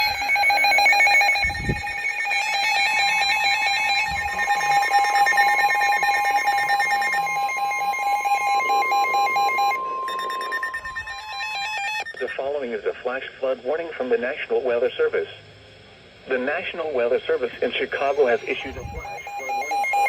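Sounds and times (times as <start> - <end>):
weather radio alert beeps: 0.0 - 14.7, 16.3 - 20.0
steady warning alarm tone: 0.0 - 15.1, 16.3 - 20.0.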